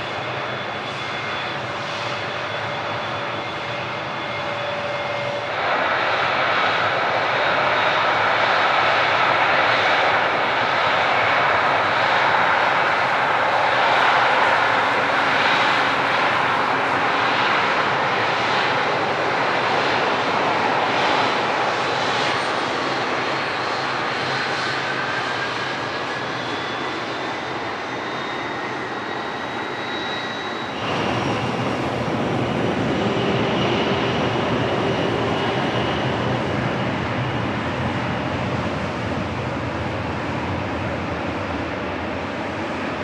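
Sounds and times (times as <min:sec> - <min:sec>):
jet engines at takeoff power: 0:00.0 - 0:43.0.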